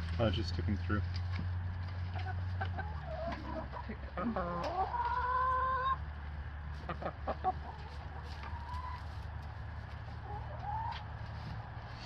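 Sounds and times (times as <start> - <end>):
hens clucking: 0.2 - 12.0.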